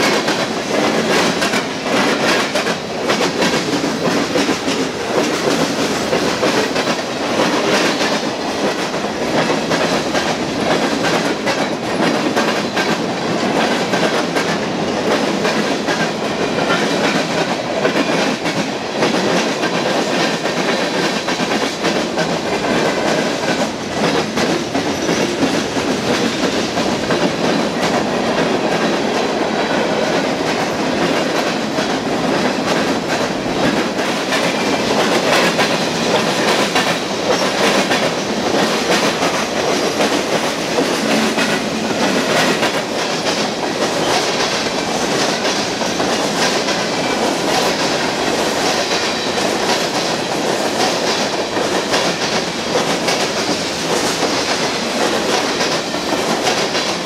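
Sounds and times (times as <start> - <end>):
rhythmic clatter over rail joints: 0.0 - 57.0
train wheels rumbling on rails: 0.0 - 57.0.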